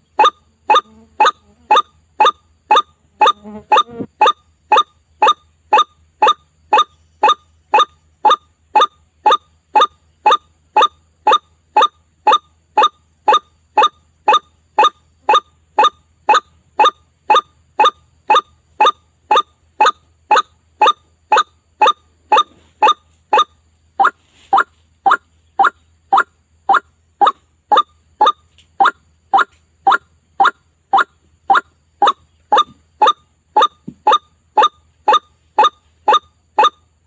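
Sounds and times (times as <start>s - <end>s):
repeated bird call note: 0.0s - 36.9s.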